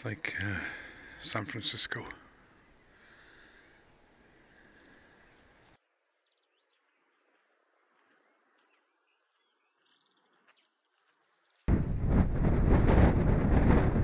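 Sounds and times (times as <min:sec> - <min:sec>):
faint birds chirping: 0:00.0 - 0:12.7.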